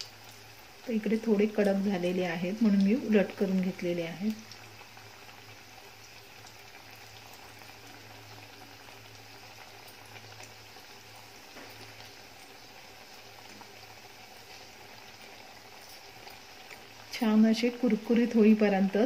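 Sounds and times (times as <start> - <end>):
pastries deep-frying bubbling sizzle: 0.0 - 19.0.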